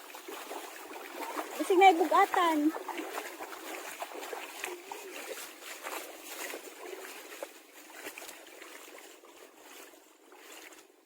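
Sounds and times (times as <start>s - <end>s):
water trickling: 0.0s - 10.8s
seawater sloshing and splashing: 0.0s - 11.0s.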